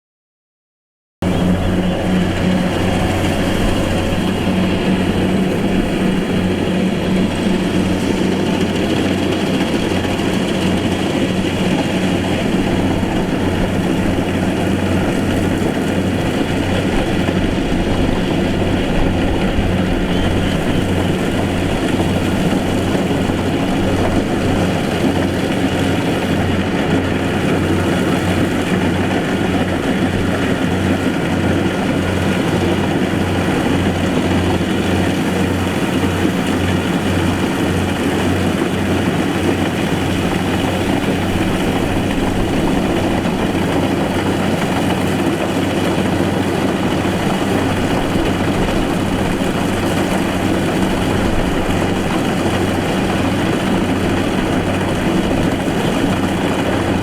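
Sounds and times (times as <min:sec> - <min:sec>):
combine harvester engine running: 0:01.2 - 0:57.0.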